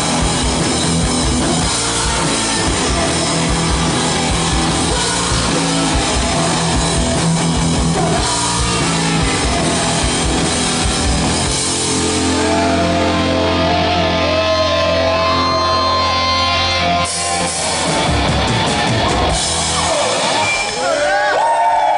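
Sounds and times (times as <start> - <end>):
wavering lead guitar notes: 0.0 - 21.2
hard rock band playing: 0.0 - 21.6.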